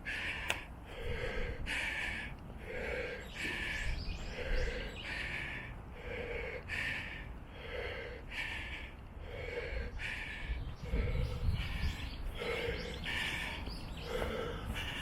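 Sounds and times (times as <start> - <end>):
heavy labored breathing: 0.0 - 15.0.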